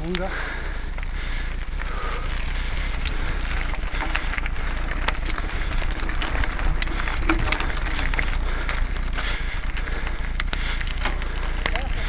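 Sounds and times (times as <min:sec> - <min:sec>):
bike rattling and clicking: 0:00.0 - 0:12.0
bike tyres rumbling on gravel: 0:00.0 - 0:12.0.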